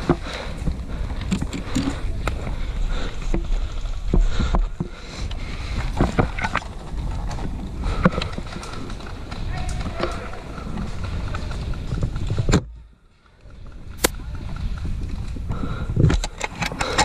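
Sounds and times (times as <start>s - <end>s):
wind noise on microphone: 0.0s - 12.8s, 13.5s - 17.0s
gear rustling and knocking: 0.0s - 17.0s.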